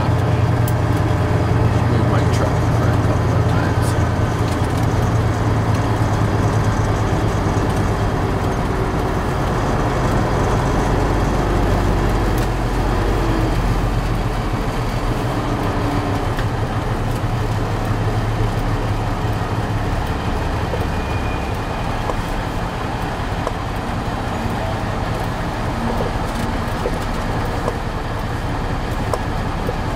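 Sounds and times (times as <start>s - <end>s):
truck diesel engine: 0.0s - 29.9s.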